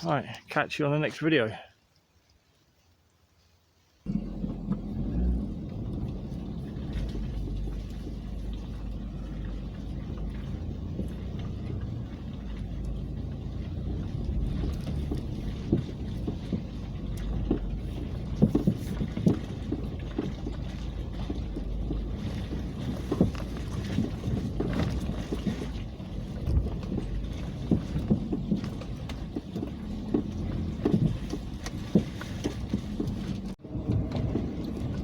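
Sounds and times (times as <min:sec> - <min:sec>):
car engine and road rumble: 0:04.0 - 0:35.0
knocks and rattles from bumps: 0:04.1 - 0:35.0.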